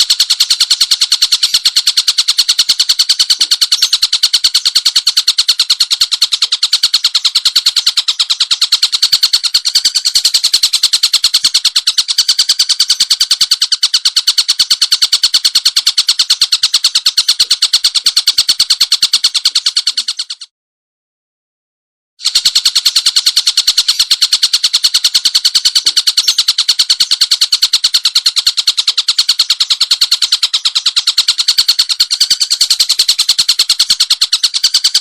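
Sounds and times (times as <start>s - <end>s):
songbird rapid high-pitched call: 0.0s - 20.5s, 22.2s - 35.0s.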